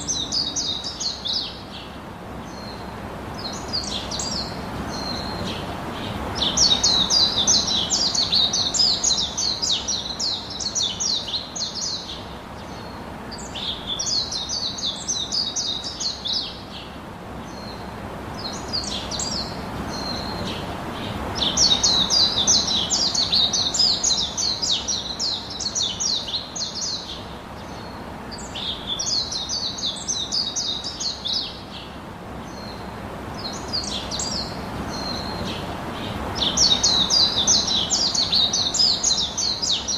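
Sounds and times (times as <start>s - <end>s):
low background hiss: 0.0s - 39.9s
songbird singing: 0.0s - 39.9s.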